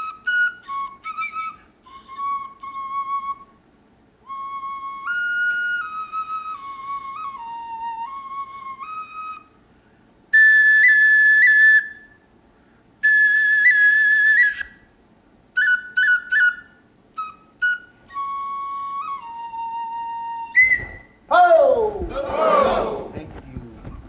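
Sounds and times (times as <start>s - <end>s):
bone flute melody: 0.0s - 3.6s, 4.2s - 9.6s, 10.4s - 12.2s, 13.0s - 14.8s, 15.5s - 23.0s.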